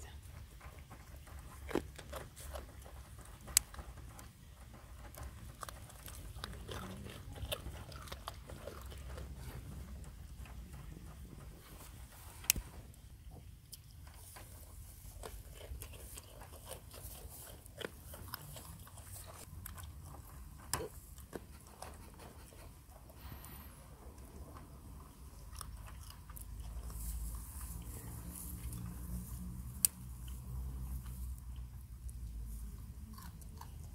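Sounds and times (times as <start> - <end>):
goats crunching carrots: 0.0 - 23.2, 24.2 - 33.9.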